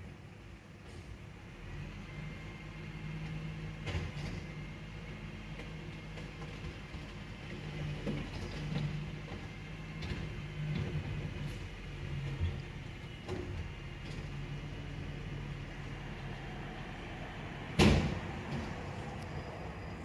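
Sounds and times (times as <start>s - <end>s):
garbage truck engine and hydraulics: 0.0s - 20.0s.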